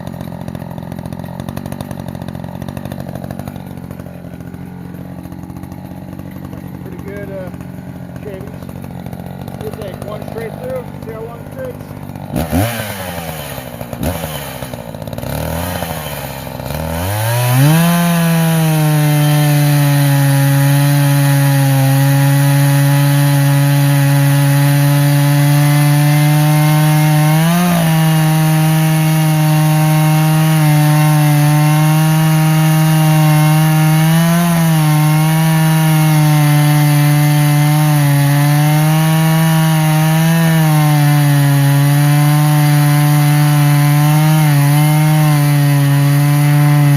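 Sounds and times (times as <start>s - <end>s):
chainsaw cutting log: 0.0s - 46.9s.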